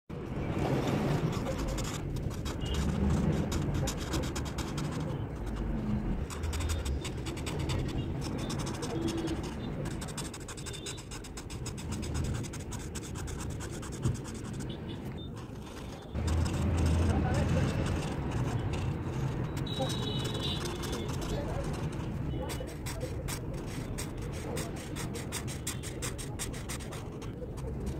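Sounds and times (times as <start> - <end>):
marker scratching on paper: 0.4 - 27.9.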